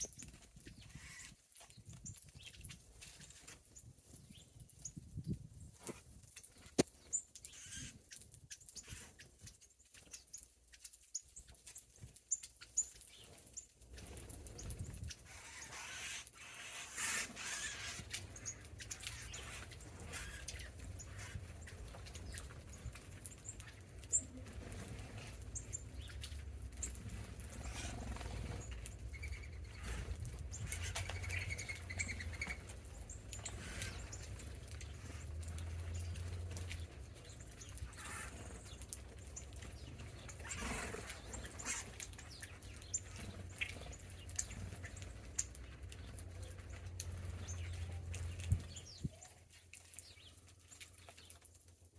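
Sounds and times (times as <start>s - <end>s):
light ticks and patters: 0.0s - 51.9s
small birds chirping: 0.0s - 51.9s.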